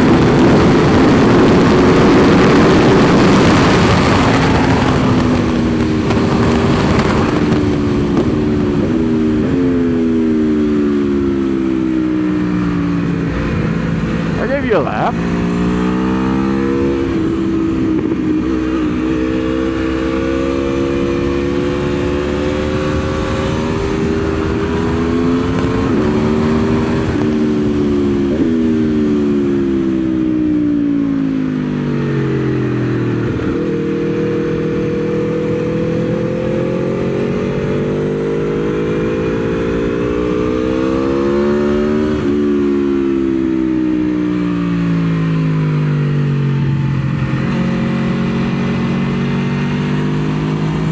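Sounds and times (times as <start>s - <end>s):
motorcycle engine revving: 0.0s - 30.4s, 31.3s - 50.9s.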